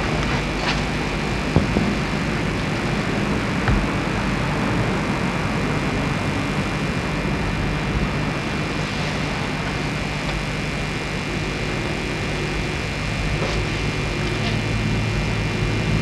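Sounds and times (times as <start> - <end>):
faint hum: 0.0 - 16.0
low rumble and hiss: 0.0 - 16.0.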